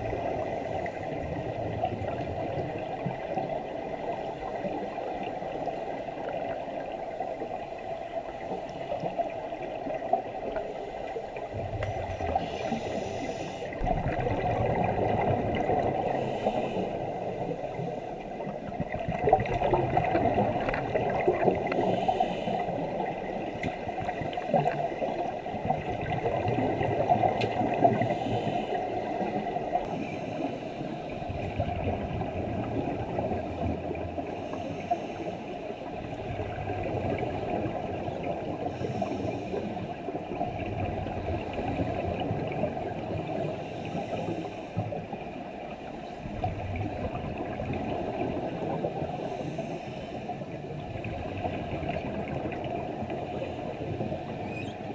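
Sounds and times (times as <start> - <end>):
regulator bubbles hissing: 0.0 - 44.6
muffled underwater rumble and gurgle: 0.0 - 54.9.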